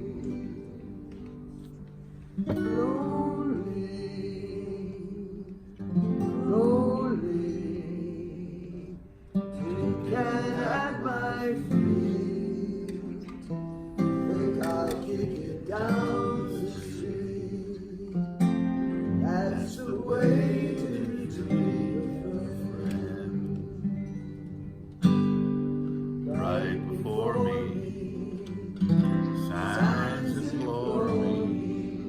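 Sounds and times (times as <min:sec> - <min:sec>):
person singing a ballad: 0:00.0 - 0:01.7, 0:02.4 - 0:24.7, 0:26.2 - 0:32.0
acoustic guitar chords: 0:00.0 - 0:32.0.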